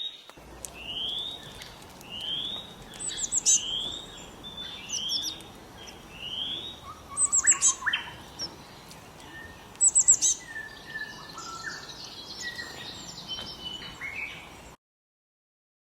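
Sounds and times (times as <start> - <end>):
songbirds singing and calling: 0.0 - 14.8.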